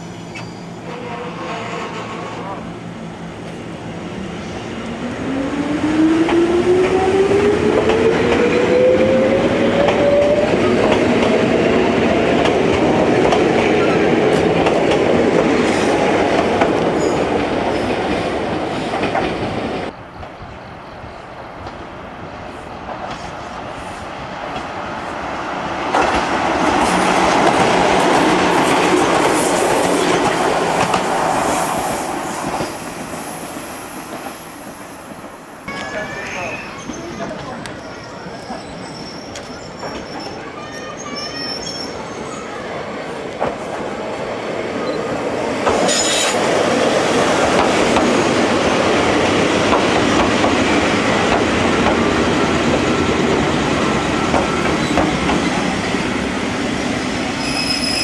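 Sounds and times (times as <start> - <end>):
train passing: 0.0 - 58.0
train wheels rumbling: 0.0 - 58.0.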